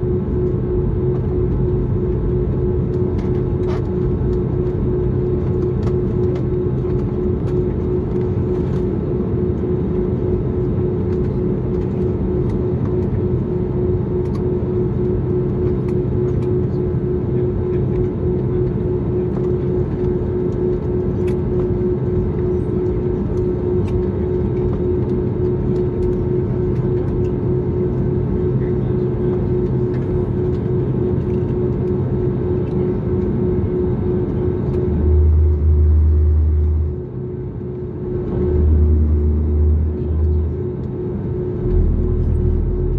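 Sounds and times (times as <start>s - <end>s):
constant hum tone: 0.0s - 42.9s
jet engine drone: 0.0s - 42.9s.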